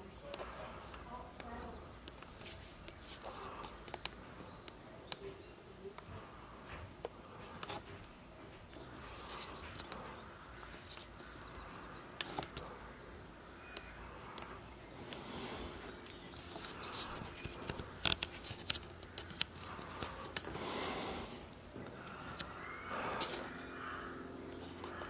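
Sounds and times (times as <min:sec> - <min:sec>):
sharp clicks and ticks: 0:00.0 - 0:20.6
soft background noise: 0:00.0 - 0:25.0.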